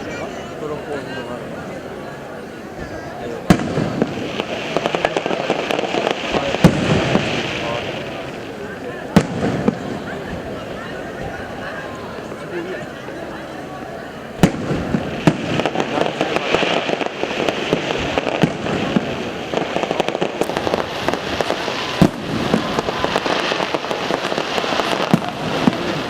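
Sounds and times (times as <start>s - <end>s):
fireworks bangs: 0.0s - 13.0s, 14.2s - 26.0s
fireworks crackling: 0.0s - 26.0s.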